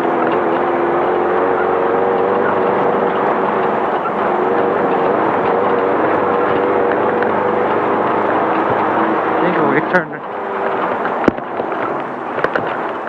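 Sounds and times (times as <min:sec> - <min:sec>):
car engine running hard: 0:00.0 - 0:13.0
road and wind noise: 0:00.0 - 0:13.0.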